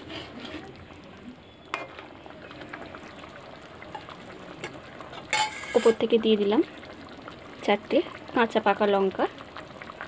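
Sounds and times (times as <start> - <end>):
gravy simmering bubbling: 0.0 - 10.0.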